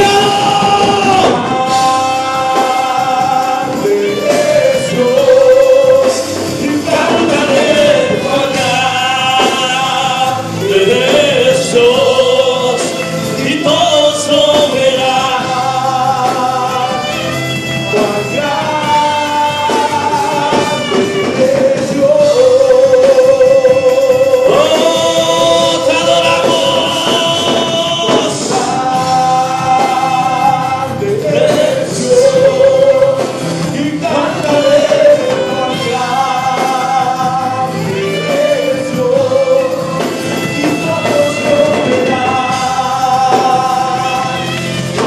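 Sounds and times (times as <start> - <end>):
instrumental accompaniment: 0.0 - 45.0
voices singing gospel song: 0.0 - 45.0.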